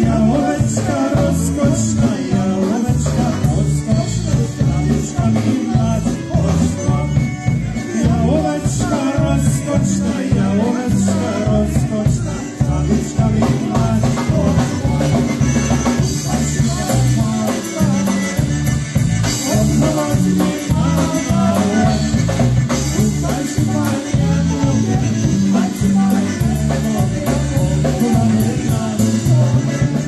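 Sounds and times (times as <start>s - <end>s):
drums bouncing beat: 0.0s - 30.0s
polka band playing: 0.0s - 30.0s.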